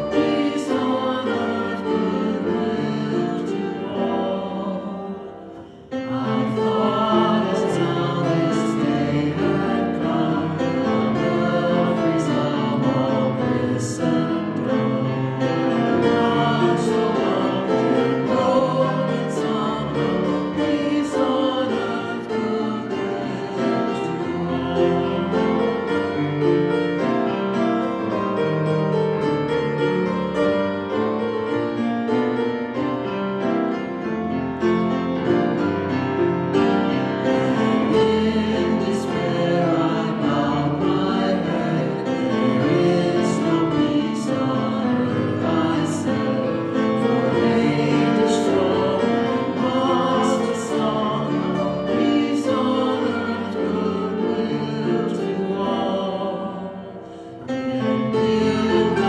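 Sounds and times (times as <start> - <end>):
choir singing a hymn: 0.0 - 59.0
piano accompaniment: 0.0 - 59.0.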